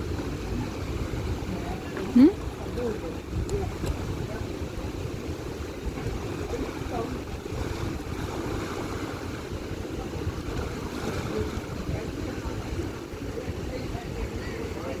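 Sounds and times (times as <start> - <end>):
faint voices: 0.0 - 15.0
wind buffeting microphone: 0.0 - 15.0.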